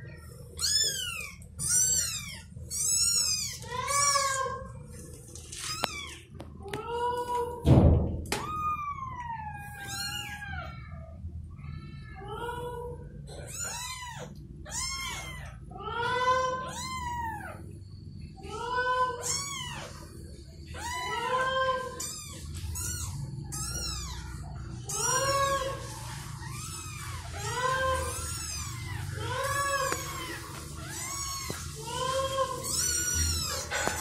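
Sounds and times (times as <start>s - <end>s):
kittens mewing: 0.0s - 4.8s, 8.4s - 12.6s, 13.2s - 17.7s, 18.8s - 34.0s.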